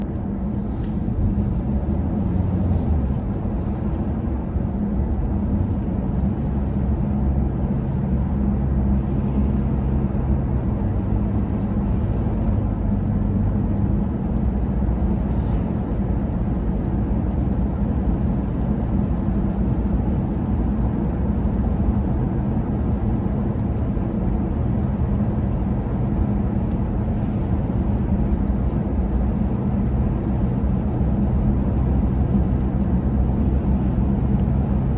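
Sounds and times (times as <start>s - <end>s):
vehicle rumble: 0.0s - 34.9s.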